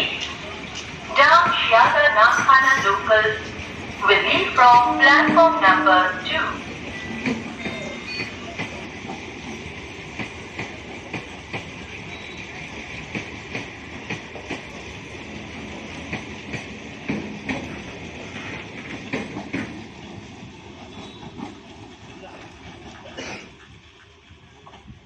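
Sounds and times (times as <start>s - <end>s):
train rumble: 0.0s - 25.0s
train wheels clicking on rail joints: 0.0s - 25.0s.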